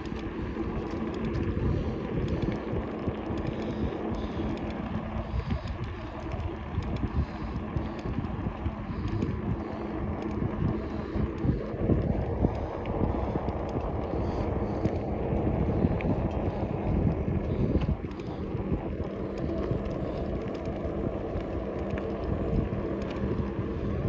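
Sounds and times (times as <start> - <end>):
low hum of bike rolling: 0.0 - 24.0
wind rushing over microphone: 0.0 - 24.0.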